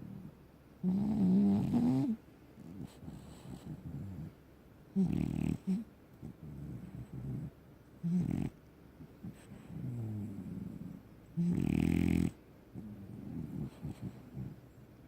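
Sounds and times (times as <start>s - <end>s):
dog snorting: 0.0s - 4.4s, 5.0s - 8.6s, 9.2s - 14.6s
dog snoring: 0.0s - 8.6s, 9.2s - 14.6s.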